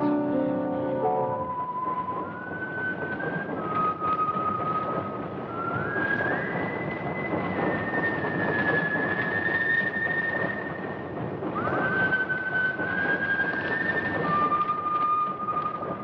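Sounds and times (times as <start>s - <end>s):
moving train rumble: 0.0s - 16.0s.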